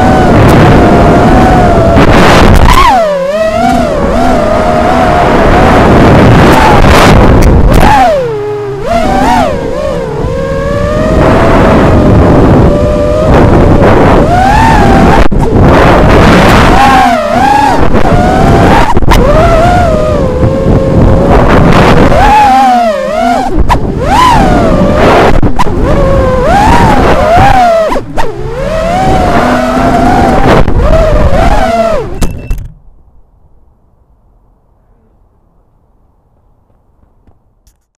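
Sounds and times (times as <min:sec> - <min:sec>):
drone motors whining: 0:00.0 - 0:32.8
wind rushing over microphone: 0:00.0 - 0:32.8.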